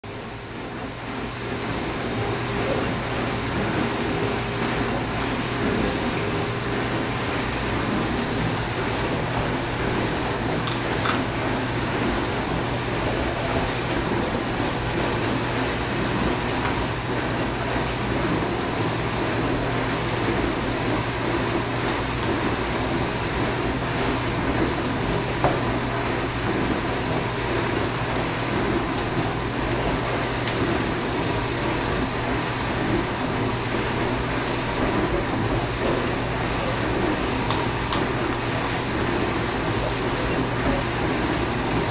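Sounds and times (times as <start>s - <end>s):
dishwasher running: 0.0s - 41.9s.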